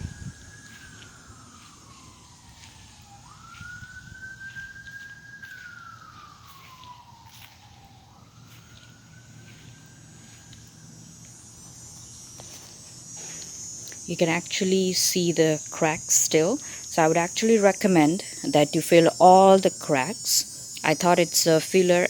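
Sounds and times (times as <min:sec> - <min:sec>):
faint siren wailing: 0:00.0 - 0:22.0.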